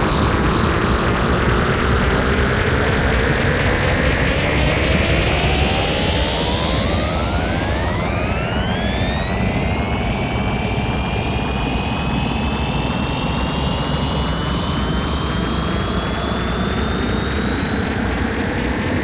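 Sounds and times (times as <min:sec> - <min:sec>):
high whine rising in pitch: 0:00.0 - 0:19.0.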